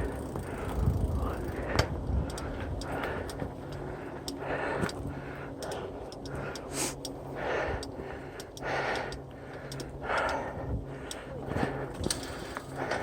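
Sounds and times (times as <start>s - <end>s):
bike clicking and ticking: 0.0s - 13.0s
rider breathing hard: 0.0s - 13.0s.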